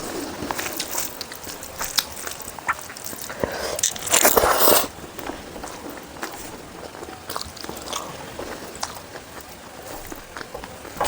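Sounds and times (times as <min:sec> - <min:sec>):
mouth smacks: 0:00.0 - 0:11.0
person chewing: 0:00.0 - 0:11.0.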